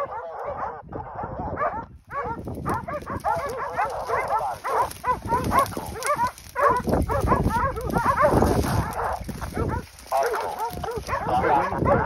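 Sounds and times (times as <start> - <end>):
hounds baying and yelping: 0.0 - 12.0.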